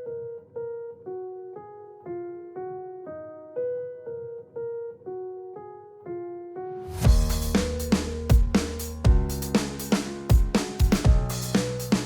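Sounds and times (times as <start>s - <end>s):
simple piano melody: 0.0s - 12.0s.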